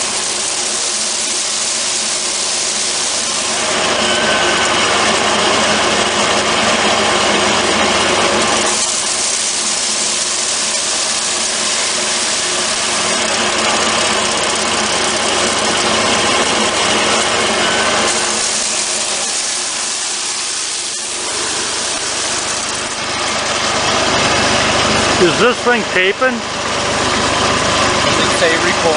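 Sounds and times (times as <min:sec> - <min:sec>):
hammer mill running: 0:00.0 - 0:28.9.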